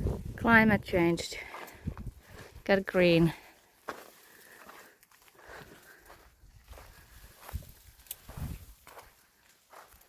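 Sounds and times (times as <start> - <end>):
footsteps on a trail: 0.0 - 10.0.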